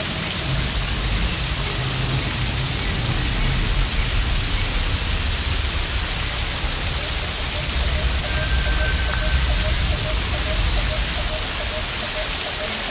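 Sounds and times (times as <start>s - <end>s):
low rumble: 0.0s - 12.0s
rain falling onto stream: 0.0s - 12.9s.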